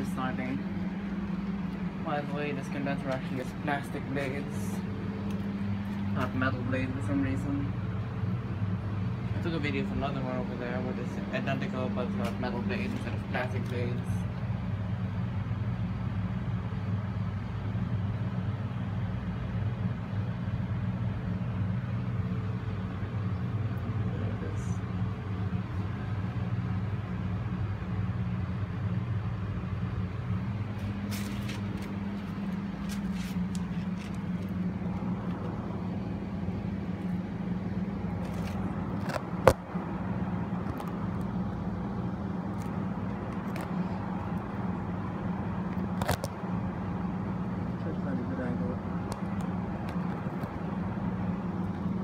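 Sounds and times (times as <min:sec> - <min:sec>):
air conditioner fan humming: 0:00.0 - 0:52.0.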